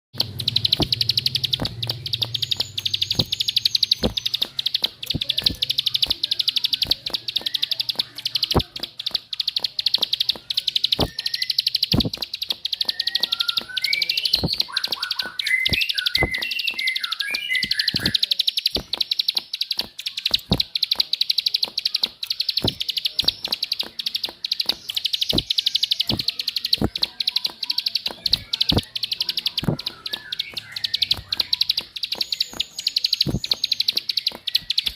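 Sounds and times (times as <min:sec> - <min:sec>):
bird chirps: 0:00.1 - 0:34.9
fast high ticking chatter: 0:00.1 - 0:34.9
sharp loud clicks: 0:00.2 - 0:34.9.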